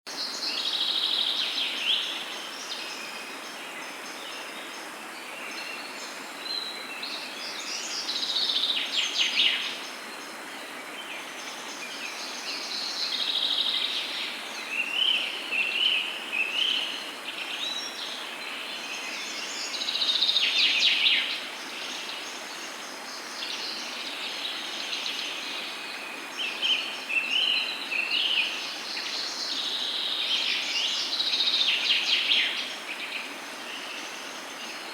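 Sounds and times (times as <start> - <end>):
outdoor background hiss: 0.1 - 34.9.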